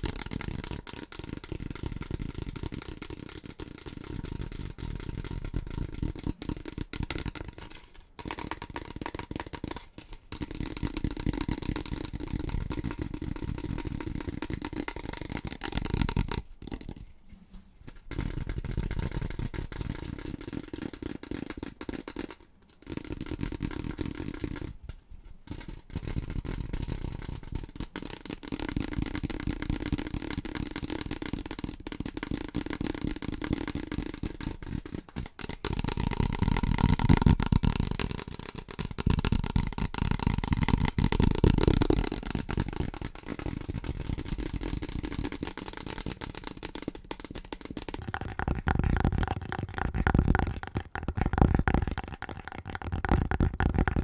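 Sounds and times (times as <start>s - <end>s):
rapid tapping on household items: 0.0s - 17.0s, 18.1s - 24.7s, 25.5s - 54.0s.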